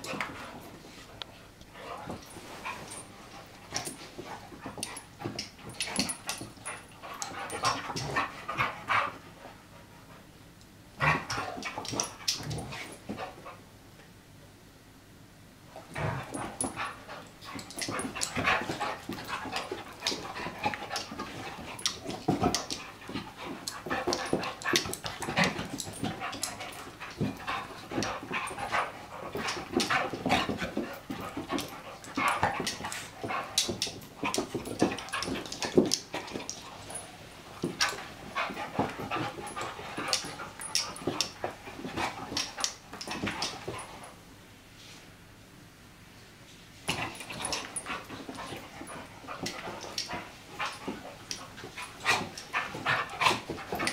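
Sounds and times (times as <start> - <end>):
dog paws scuffling: 0.0 - 9.2, 16.2 - 44.2, 46.8 - 53.9.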